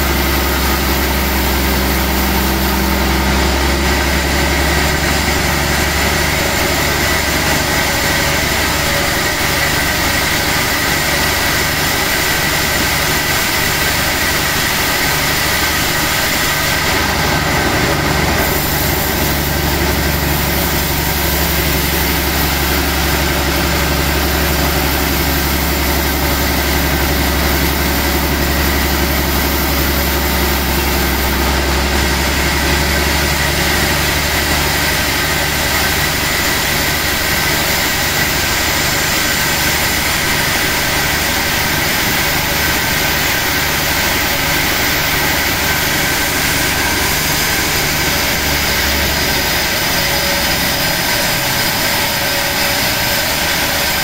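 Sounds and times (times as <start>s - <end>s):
band saw cutting log: 0.0s - 54.0s
machine drone: 0.0s - 54.0s.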